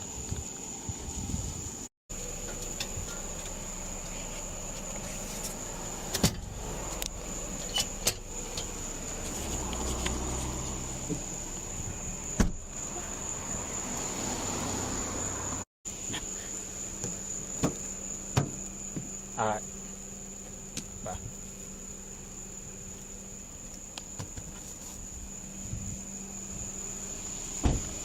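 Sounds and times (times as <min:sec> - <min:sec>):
car engine hum: 0:00.0 - 0:28.0
high-pitched insect drone: 0:00.0 - 0:28.0.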